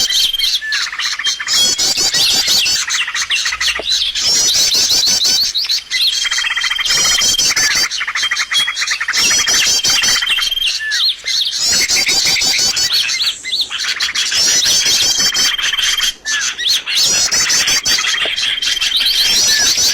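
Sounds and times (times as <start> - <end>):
songbirds chirping and twittering: 0.0 - 19.9.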